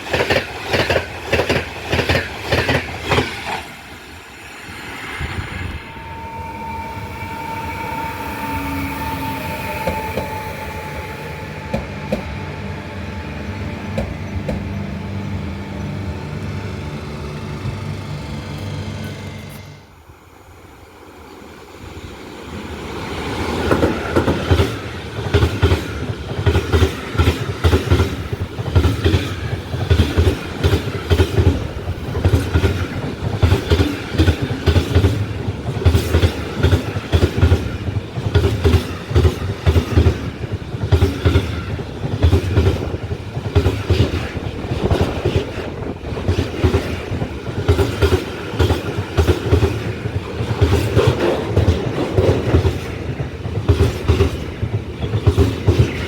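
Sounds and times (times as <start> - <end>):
train wheels clattering: 0.0 - 3.8, 6.1 - 19.8, 23.3 - 56.0.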